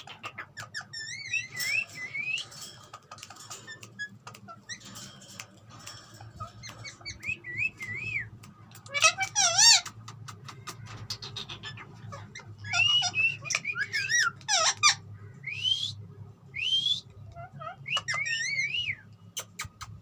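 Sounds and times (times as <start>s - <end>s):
parrot whistling and chattering: 0.0s - 4.9s, 6.4s - 16.0s, 16.6s - 20.0s.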